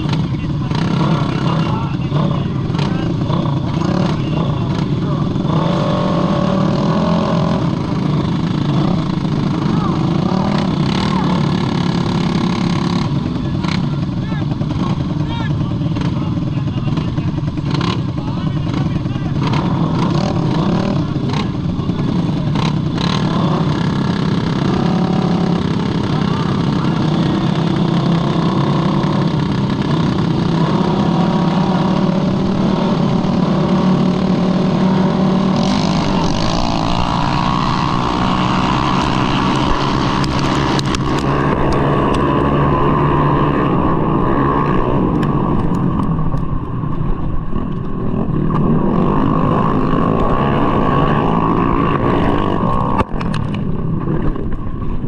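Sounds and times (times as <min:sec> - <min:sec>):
scooter engine revving hard: 0:00.0 - 0:46.4, 0:48.0 - 0:54.5.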